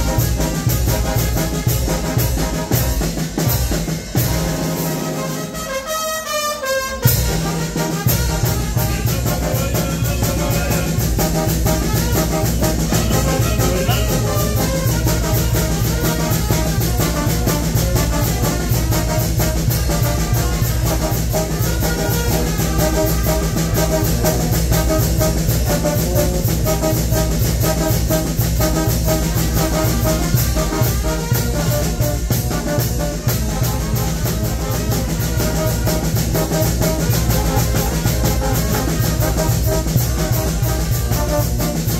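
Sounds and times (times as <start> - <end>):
steady drum beat: 0.0 - 5.8, 7.0 - 41.9
trumpets and brass: 0.0 - 41.9
tubas playing bass line: 0.0 - 41.9.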